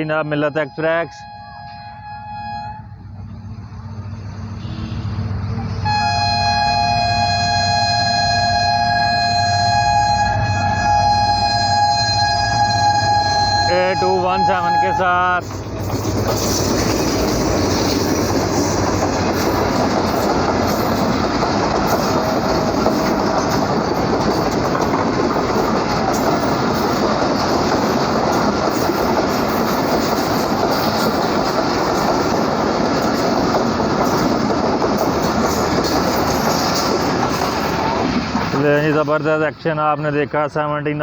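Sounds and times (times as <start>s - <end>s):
train wheels over rails: 2.8s - 39.7s.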